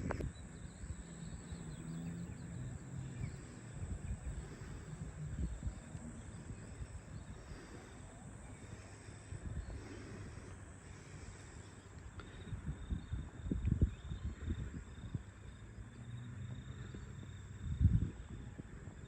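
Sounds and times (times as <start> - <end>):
insects chirring: 0.0 - 19.0
low uneven rumble: 0.0 - 19.0.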